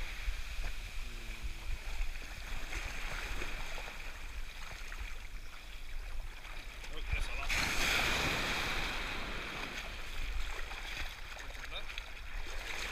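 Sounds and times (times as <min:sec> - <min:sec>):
surf washing on sand: 0:00.0 - 0:04.9, 0:06.2 - 0:12.9.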